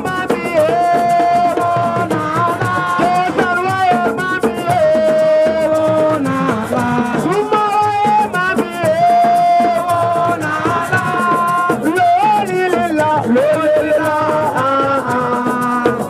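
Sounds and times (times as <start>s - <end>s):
fast shaker rhythm: 0.0s - 16.0s.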